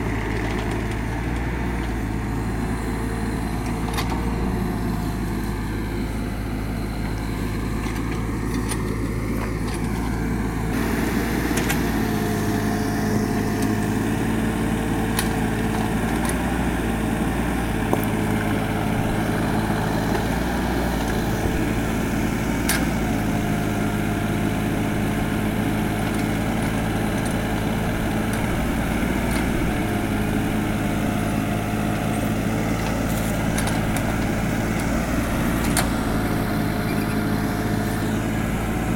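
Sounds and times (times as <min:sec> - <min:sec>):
diesel engine running: 0:00.0 - 0:38.9
hydraulics whine: 0:00.0 - 0:38.9.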